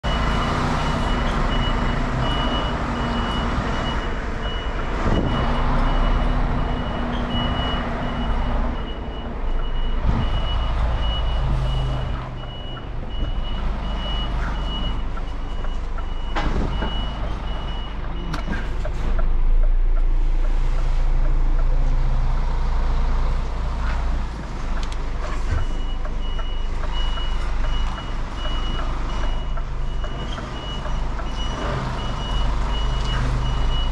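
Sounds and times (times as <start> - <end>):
reversing alarm beeping: 0.0 - 20.6, 25.2 - 33.9
diesel engine running: 0.0 - 33.9.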